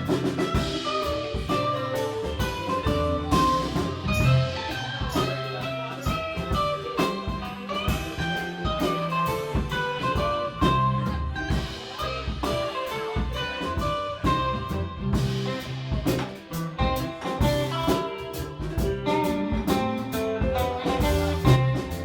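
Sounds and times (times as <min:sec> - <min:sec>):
bass guitar: 0:00.0 - 0:22.0
drum kit steady beat: 0:00.0 - 0:22.0
guitar playing short bright notes: 0:00.0 - 0:22.0.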